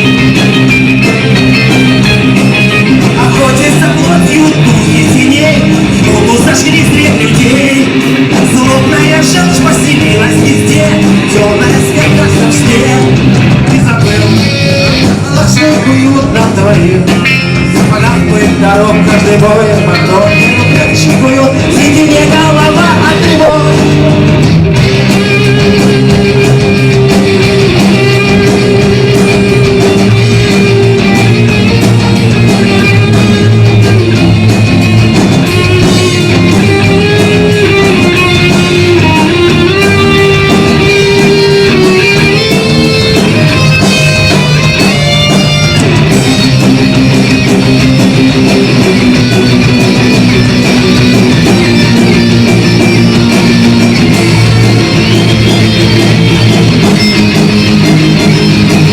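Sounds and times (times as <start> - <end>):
heavy rock guitars: 0.0 - 58.9.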